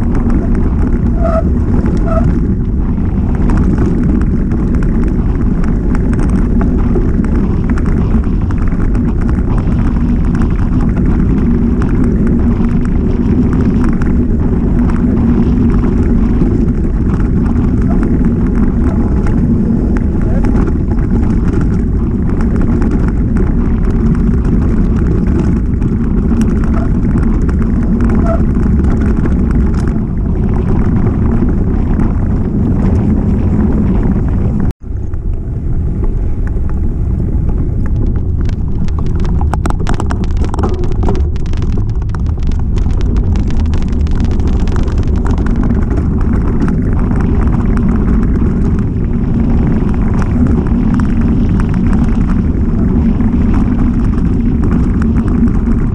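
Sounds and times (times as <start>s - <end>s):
bike rattling over bumps: 0.0s - 55.9s
tyres rolling on trail: 0.0s - 55.9s
wind rushing on microphone: 0.0s - 55.9s.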